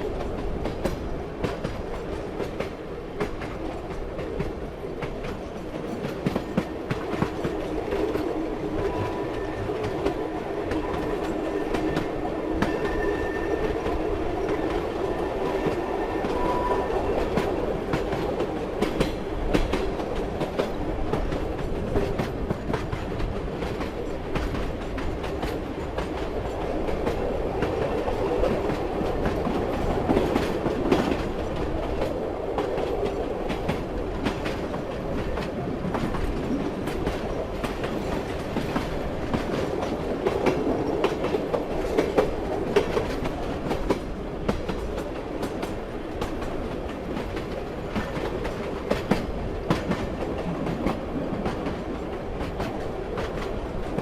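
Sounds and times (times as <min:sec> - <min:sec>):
train wheels clicking over rail joints: 0:00.1 - 0:54.0.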